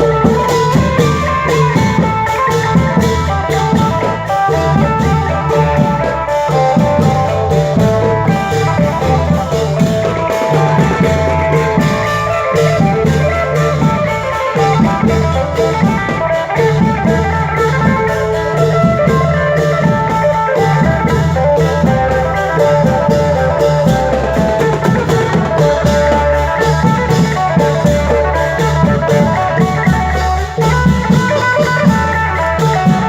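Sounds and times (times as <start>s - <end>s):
steady drum beat: 0.0s - 33.0s.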